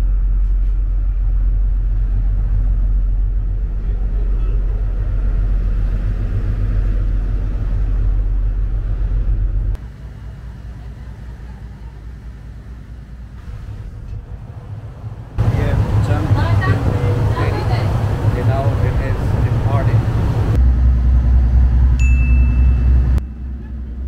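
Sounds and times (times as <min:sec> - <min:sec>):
ship engines rumbling: 0:00.0 - 0:24.0.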